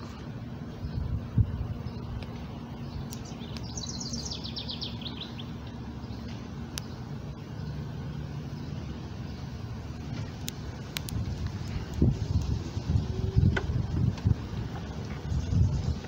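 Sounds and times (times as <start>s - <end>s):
low background rumble: 0.0s - 16.0s
songbird singing: 0.0s - 16.0s.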